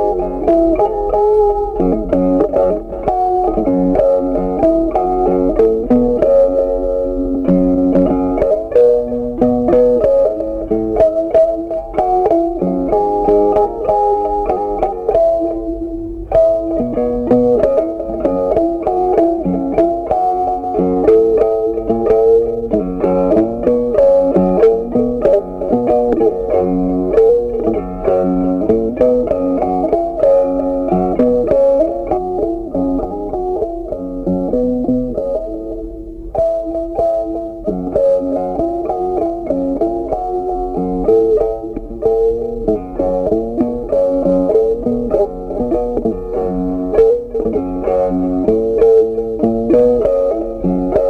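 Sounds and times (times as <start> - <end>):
plucked guitar melody: 0.0 - 51.0.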